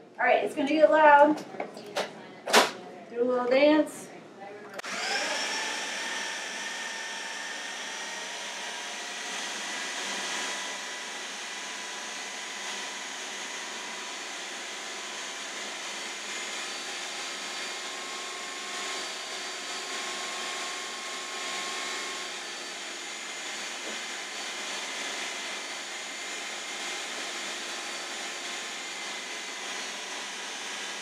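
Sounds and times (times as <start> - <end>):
food processor whirring: 4.8 - 31.0.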